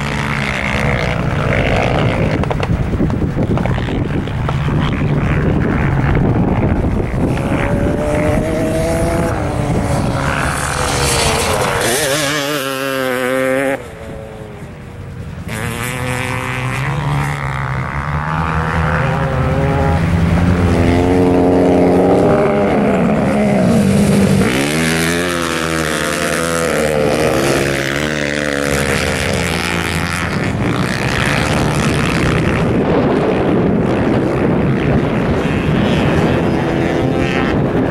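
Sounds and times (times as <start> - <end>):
motorcycle engines revving: 0.0 - 37.9.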